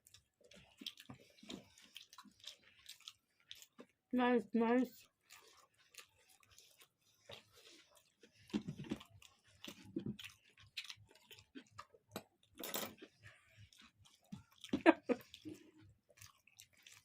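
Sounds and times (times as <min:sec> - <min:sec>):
close-up chewing: 0:00.0 - 0:17.0.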